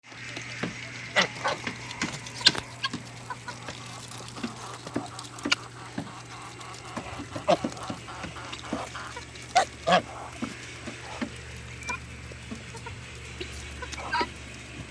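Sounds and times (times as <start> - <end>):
birds pecking clicks: 0.1 - 14.9
steady low hum: 0.1 - 14.9
bird calls: 0.4 - 14.9.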